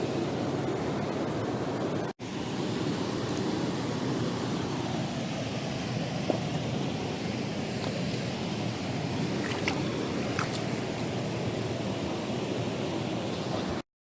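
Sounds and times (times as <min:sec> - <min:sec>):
steady rushing noise: 0:00.0 - 0:13.8.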